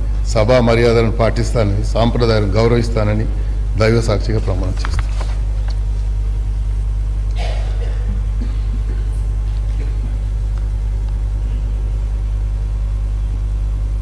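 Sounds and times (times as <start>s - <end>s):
low electrical hum: 0.0s - 14.0s
thin high whine: 0.0s - 14.0s.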